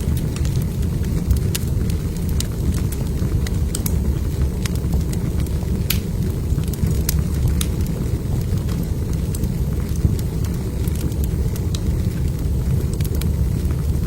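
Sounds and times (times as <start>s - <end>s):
fire low rumble: 0.0s - 14.0s
logs crackling and popping: 0.0s - 14.0s.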